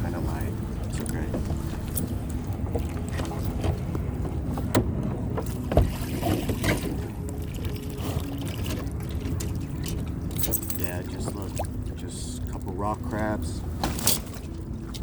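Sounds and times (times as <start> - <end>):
water sloshing around kayak: 0.0 - 15.0.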